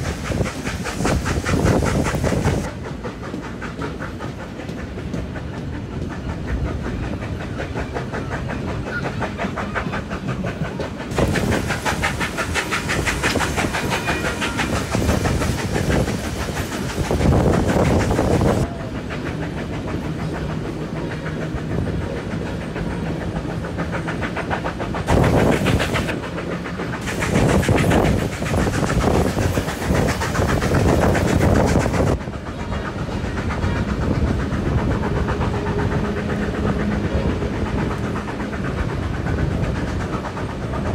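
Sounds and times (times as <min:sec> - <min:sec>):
steady rushing noise: 0:00.0 - 0:40.9
train wheels clattering on rails: 0:00.0 - 0:40.9.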